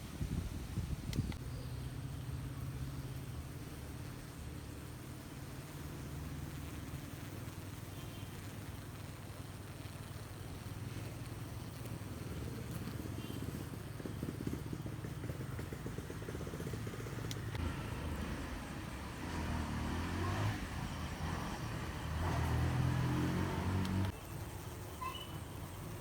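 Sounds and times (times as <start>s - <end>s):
bees buzzing: 1.8s - 26.0s.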